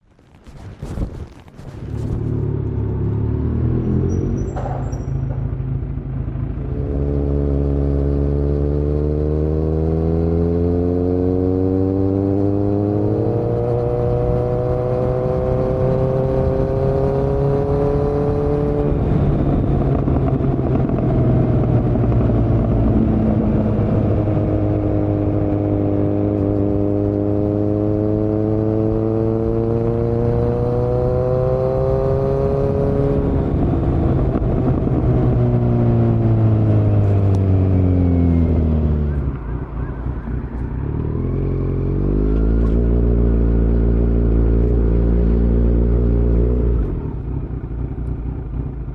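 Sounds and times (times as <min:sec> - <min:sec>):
motorcycle engine revving: 0:01.7 - 0:48.9.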